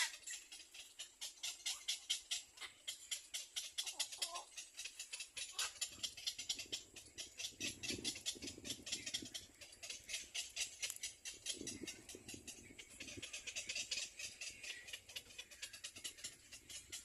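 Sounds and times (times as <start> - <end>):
nestling birds begging chirps: 0.0 - 17.0.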